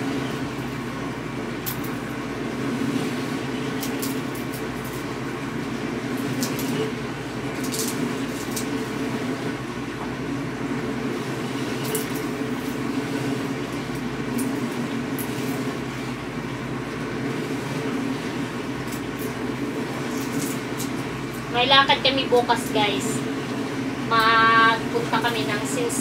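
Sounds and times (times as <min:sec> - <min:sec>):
mechanical hum and rumble: 0:00.0 - 0:26.0.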